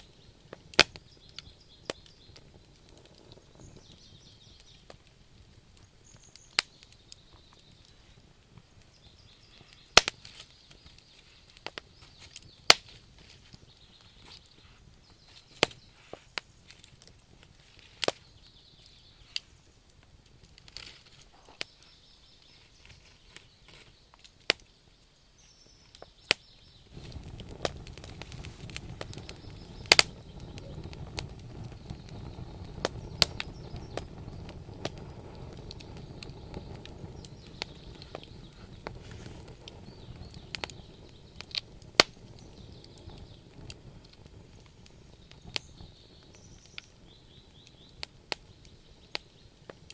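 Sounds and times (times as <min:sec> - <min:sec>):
campfire crackling and popping: 0:00.0 - 0:49.9
low rushing fire noise: 0:00.0 - 0:49.9.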